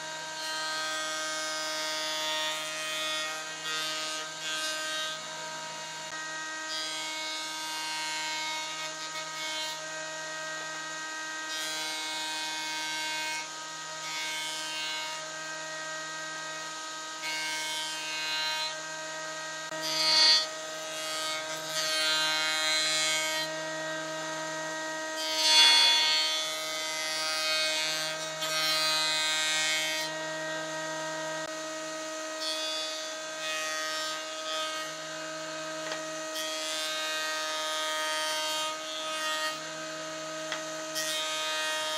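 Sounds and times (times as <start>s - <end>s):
jointer-planer whine: 0.0s - 41.9s
wood planing rasp: 0.0s - 41.9s.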